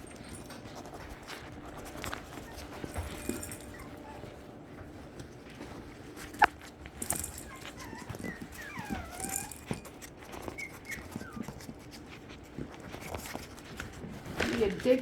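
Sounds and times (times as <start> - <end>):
puppies whimpering: 0.0 - 13.4.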